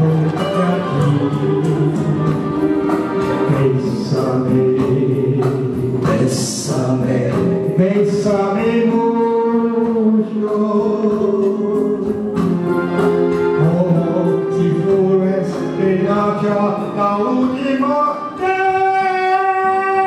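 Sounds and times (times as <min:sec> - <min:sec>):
backing track with steady beat: 0:00.0 - 0:20.0
man singing into microphone: 0:00.0 - 0:20.0.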